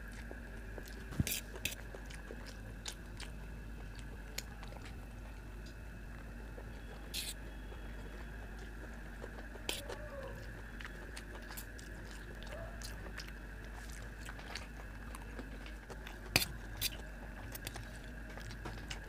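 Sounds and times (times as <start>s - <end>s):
chewing noodles: 0.0s - 19.0s
faint high hum: 0.0s - 19.0s.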